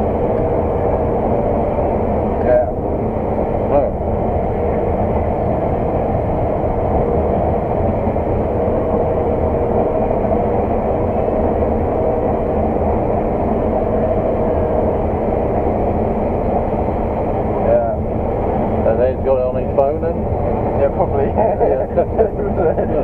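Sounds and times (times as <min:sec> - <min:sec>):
combine harvester drone: 0:00.0 - 0:23.0.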